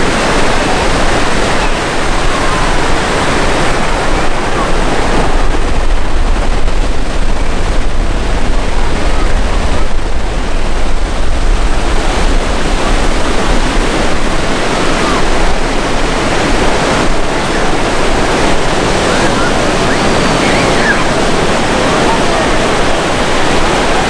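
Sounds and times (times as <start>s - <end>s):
jet engines passing overhead: 0.0s - 24.0s.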